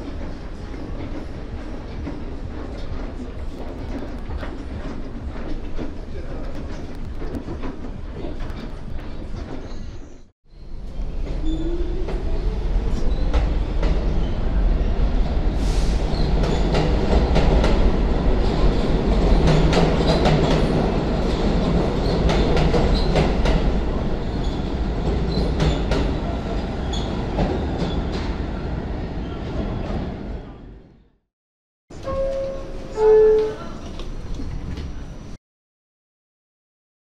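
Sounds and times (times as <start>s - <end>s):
subway train rumbling: 0.0s - 31.2s, 31.9s - 35.4s.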